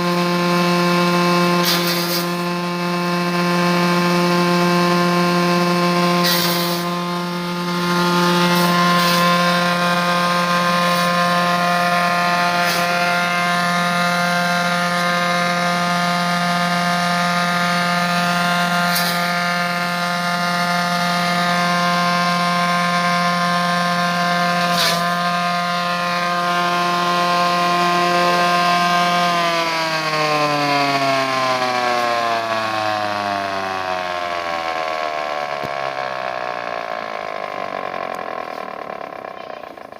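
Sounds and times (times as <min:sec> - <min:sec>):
electric grass chopper running: 0:00.0 - 0:39.9.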